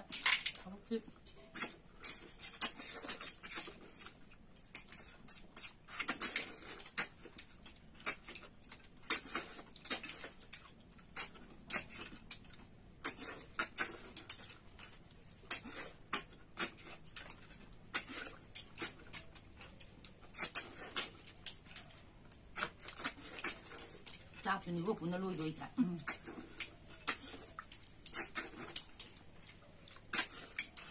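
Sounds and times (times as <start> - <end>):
chewing: 1.1 - 30.9
sucking and slurping noises: 1.4 - 24.7, 26.0 - 30.9.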